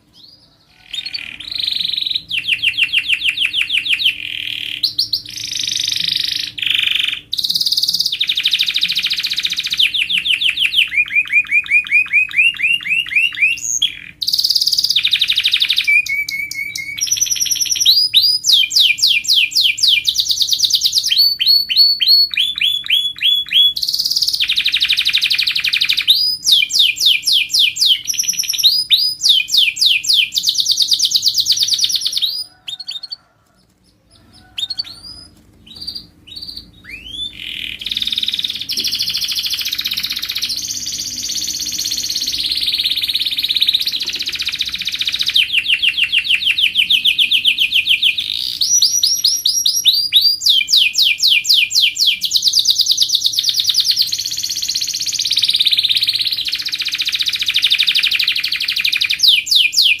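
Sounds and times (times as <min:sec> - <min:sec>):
faint steady hum: 0:00.0 - 0:59.2
canary singing trills: 0:00.0 - 1:00.0.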